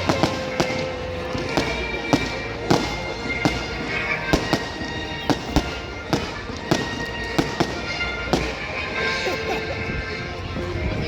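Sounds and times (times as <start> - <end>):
firework bangs: 0.0 - 9.6.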